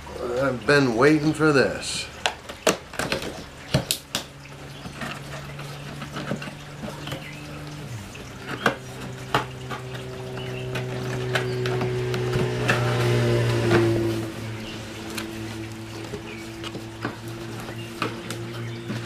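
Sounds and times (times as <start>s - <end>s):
low steady hum: 0.0s - 19.0s
hands tapping and rubbing cardboard: 2.2s - 19.0s.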